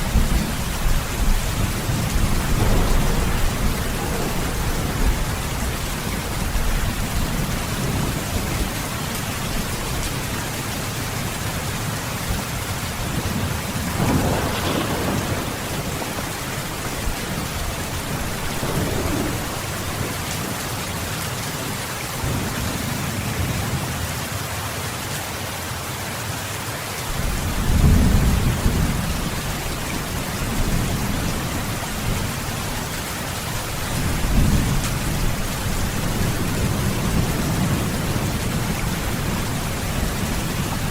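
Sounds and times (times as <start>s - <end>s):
distant thunder rolling: 0.0s - 11.2s, 12.3s - 21.0s, 27.1s - 40.9s
heavy rain: 0.0s - 40.9s.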